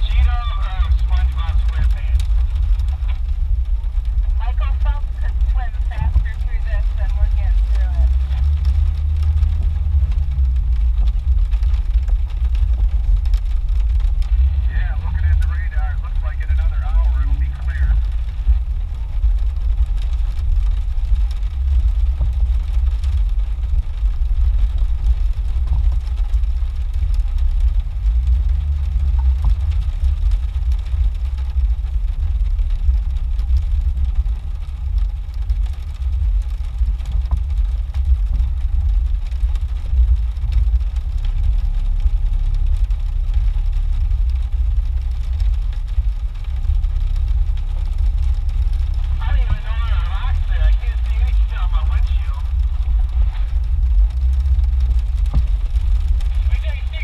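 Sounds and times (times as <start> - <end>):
engine running at low revs: 0.0 - 57.0.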